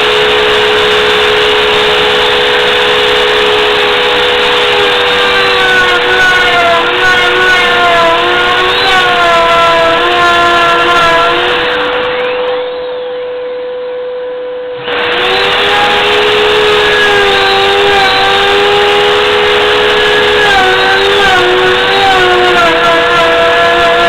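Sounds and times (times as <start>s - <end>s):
vacuum cleaner motor: 0.0s - 13.5s, 14.7s - 24.0s
router whining: 0.0s - 14.0s, 14.6s - 24.0s.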